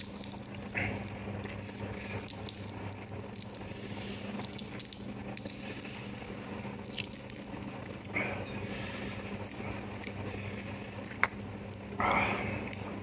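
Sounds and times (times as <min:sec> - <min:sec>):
close chewing of food: 0:00.0 - 0:13.0
steady low hum: 0:00.0 - 0:13.0.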